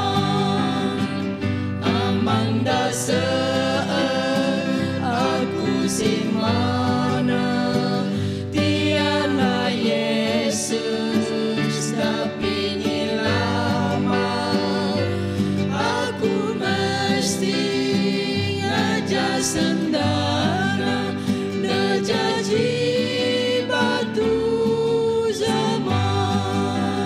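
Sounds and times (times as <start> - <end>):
group singing in parts: 0.0 - 27.0
strummed acoustic guitar: 0.0 - 27.0.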